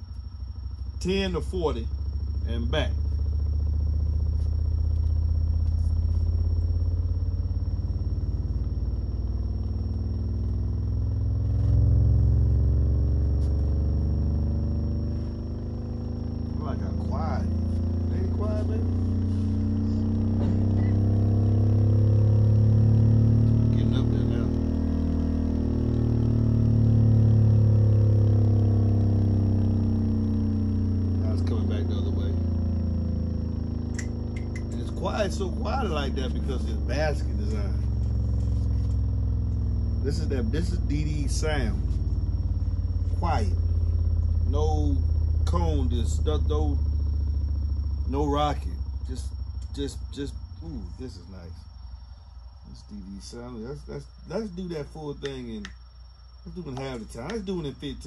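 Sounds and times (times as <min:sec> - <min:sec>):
subwoofer frequency sweep hum: 0:00.0 - 0:58.0.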